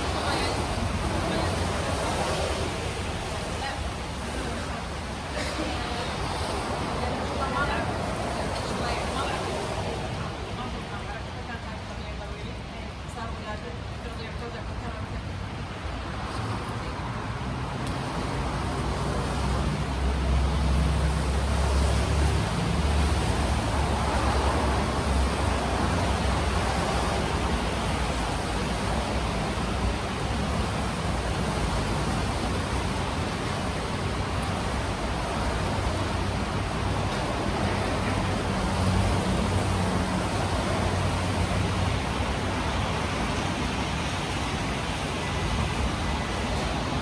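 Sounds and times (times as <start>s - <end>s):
tyres hissing on wet road: 0.0s - 47.0s
vehicle rumble: 0.0s - 47.0s.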